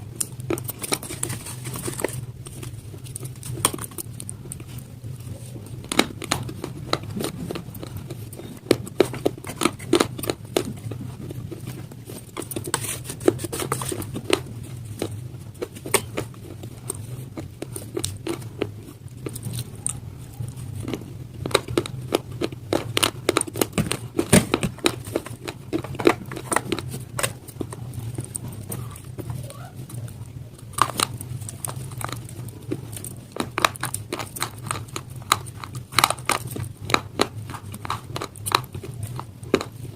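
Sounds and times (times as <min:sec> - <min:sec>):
constant low hum: 0:00.0 - 0:39.9
crunching and chewing stone: 0:00.0 - 0:39.9.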